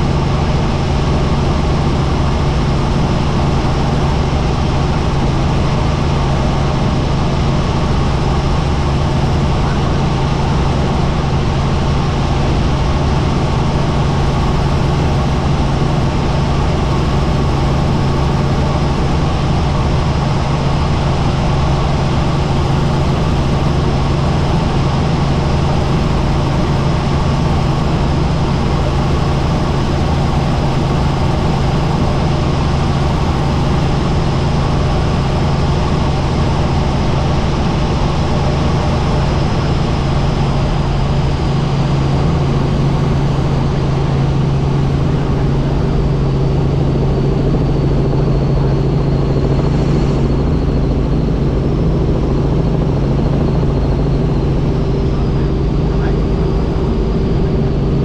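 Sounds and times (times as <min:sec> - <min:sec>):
helicopter engine and rotors: 0:00.0 - 0:58.0.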